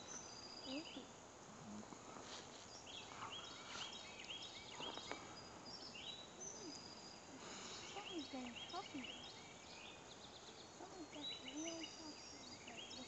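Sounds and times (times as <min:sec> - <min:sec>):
songbirds chirping: 0:00.0 - 0:13.0
steady background hiss: 0:00.0 - 0:13.0.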